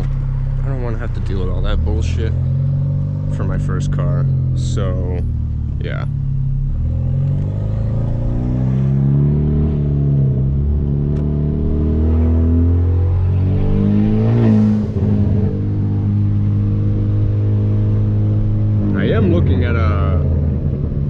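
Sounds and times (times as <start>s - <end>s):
car engine revving through gears: 0.0s - 21.0s.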